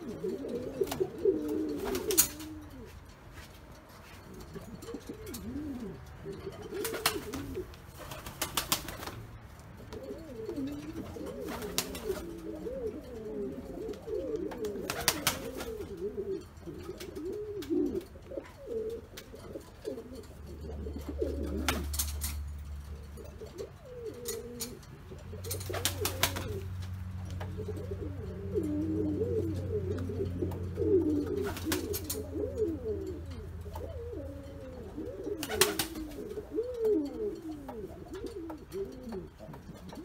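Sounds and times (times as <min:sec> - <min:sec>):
pigeons cooing: 0:00.0 - 0:03.2, 0:04.0 - 0:40.0.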